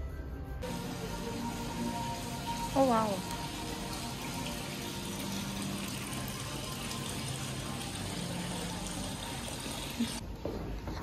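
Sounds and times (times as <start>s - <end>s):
fountain water splashing trickle: 0.7s - 10.2s.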